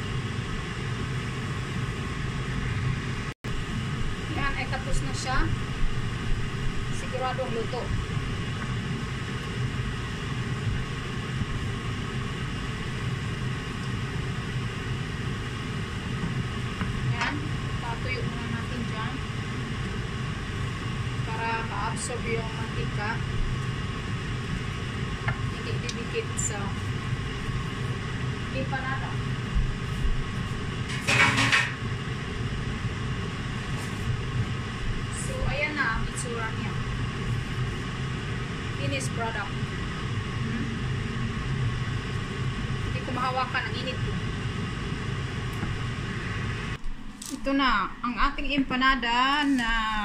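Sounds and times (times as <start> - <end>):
low even hum: 0.0 - 50.0.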